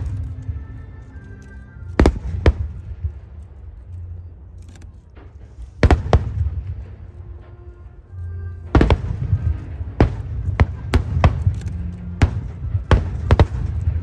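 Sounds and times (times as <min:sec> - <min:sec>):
low rumbling echo: 0:00.0 - 0:14.0.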